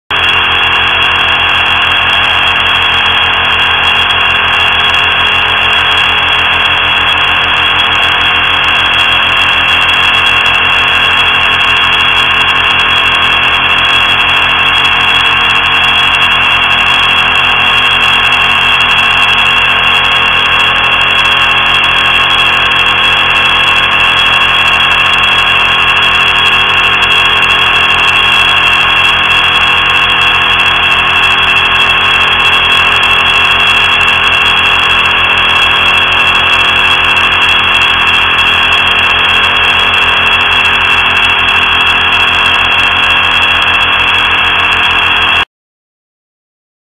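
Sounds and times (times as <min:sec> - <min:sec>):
bright high whine: 0:00.1 - 0:45.5
drone of held tones: 0:00.1 - 0:45.5.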